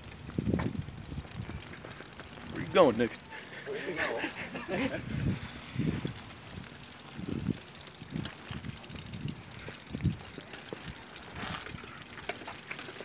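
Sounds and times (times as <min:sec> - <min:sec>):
bicycle chain running: 0:00.0 - 0:13.0.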